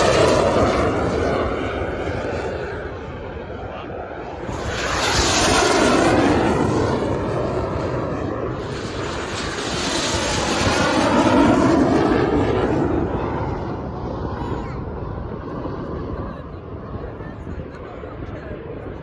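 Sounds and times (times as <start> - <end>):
aircraft engine passing: 0.0 - 19.0.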